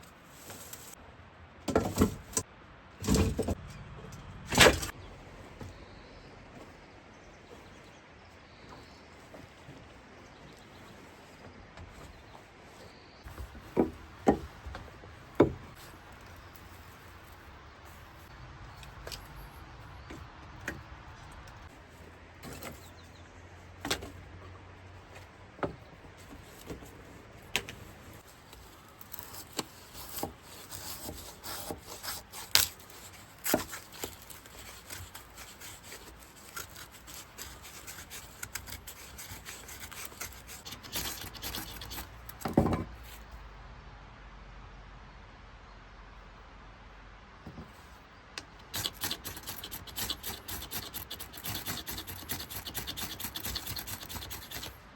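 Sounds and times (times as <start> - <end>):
rubbing and scraping: 1.7 - 43.3, 47.5 - 54.9.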